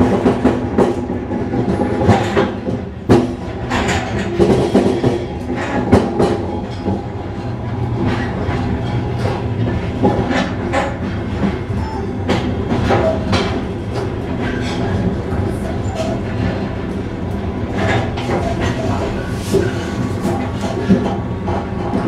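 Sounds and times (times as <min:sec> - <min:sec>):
passing train: 0:00.0 - 0:22.0
train rumbling on rails: 0:00.0 - 0:22.0
wheels clacking over rail joints: 0:00.0 - 0:22.0.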